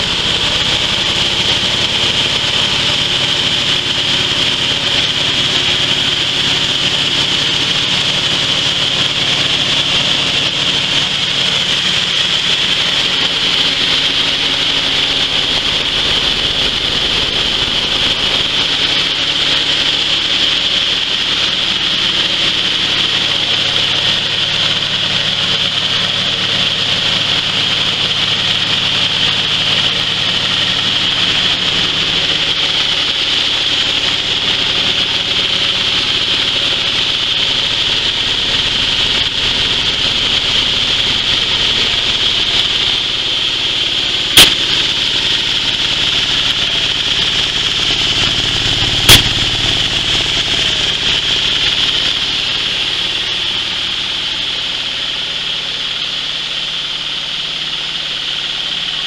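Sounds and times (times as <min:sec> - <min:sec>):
engine drone: 0:00.0 - 0:59.0.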